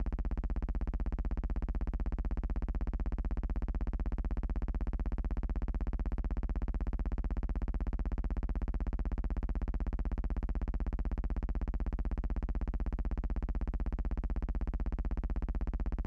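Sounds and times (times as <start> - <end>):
low pulsing buzzing hum: 0.0 - 16.0.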